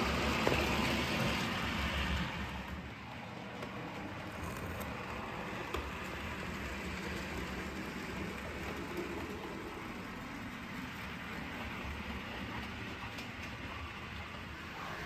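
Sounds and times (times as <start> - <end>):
model train hum and rumble: 0.0 - 15.0.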